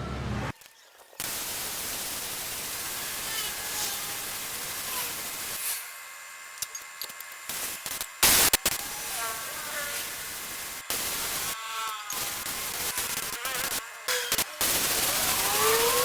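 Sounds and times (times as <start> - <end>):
steady hiss: 1.2 - 6.0, 7.5 - 16.0.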